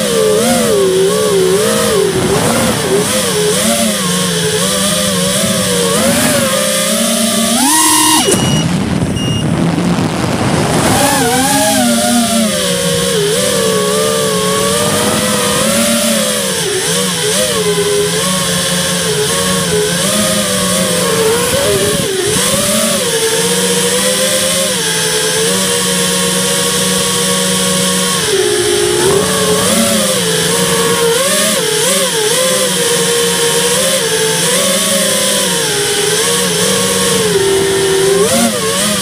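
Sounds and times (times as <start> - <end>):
toy car motor running: 0.0 - 9.3, 10.7 - 39.0.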